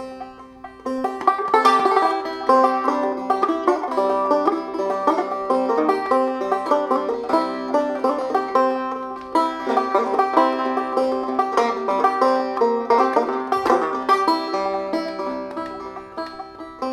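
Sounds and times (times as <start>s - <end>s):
banjo plucking bluegrass: 0.0s - 16.9s.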